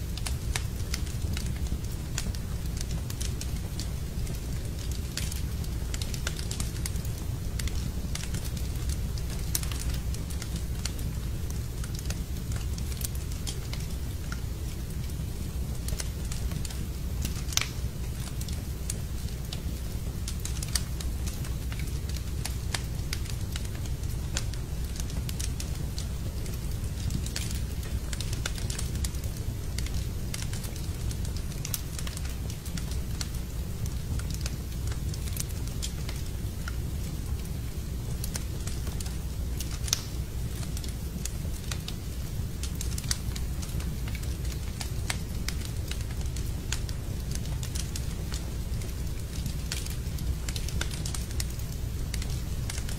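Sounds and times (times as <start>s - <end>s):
fire crackling and popping: 0.0s - 52.9s
low rumble of fire: 0.0s - 52.9s.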